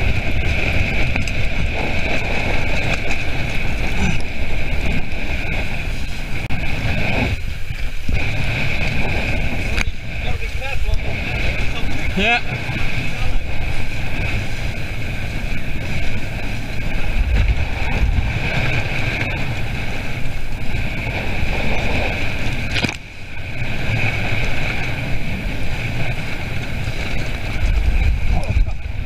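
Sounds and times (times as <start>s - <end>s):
water rushing past hull: 0.0s - 29.0s
wind buffeting microphone: 0.0s - 29.0s.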